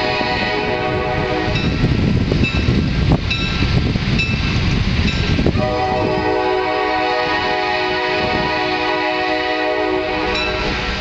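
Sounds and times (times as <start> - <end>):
diesel train rumbling on rails: 0.0 - 11.0.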